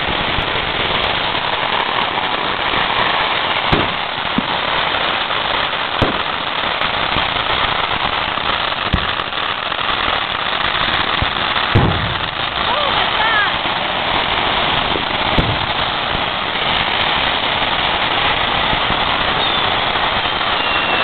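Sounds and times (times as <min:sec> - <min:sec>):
firework bangs: 0:00.0 - 0:21.0
fireworks crackling: 0:00.0 - 0:21.0.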